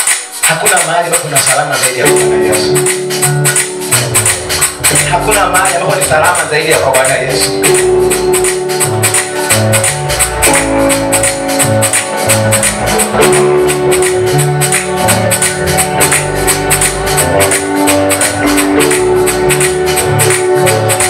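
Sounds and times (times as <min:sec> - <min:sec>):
hand percussion beat: 0:00.0 - 0:21.0
sustained keyboard chords: 0:00.0 - 0:21.0
pulsing bass: 0:02.0 - 0:21.0.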